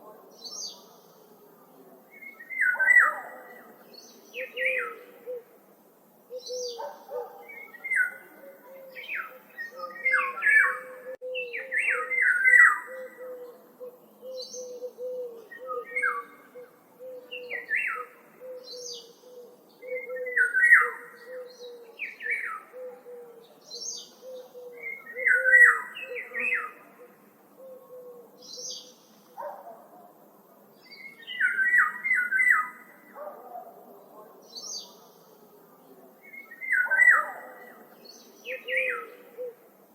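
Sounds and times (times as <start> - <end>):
birds chirping phrases: 0.0 - 5.6, 6.3 - 27.2, 28.4 - 39.6.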